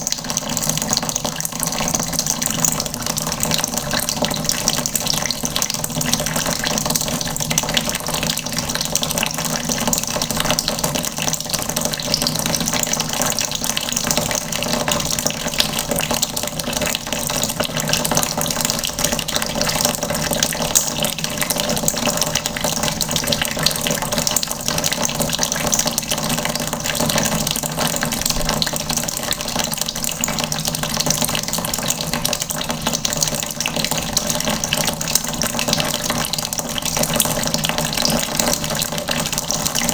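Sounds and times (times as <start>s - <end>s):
water from tap splashing into bucket: 0.0s - 39.9s.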